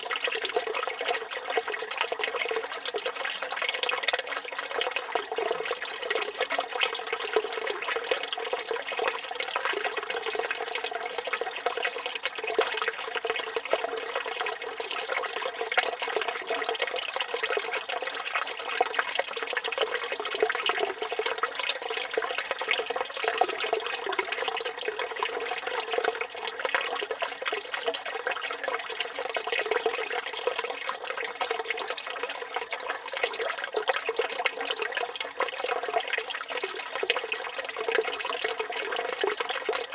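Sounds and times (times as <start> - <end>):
fountain water splashing into basin: 0.0 - 39.9.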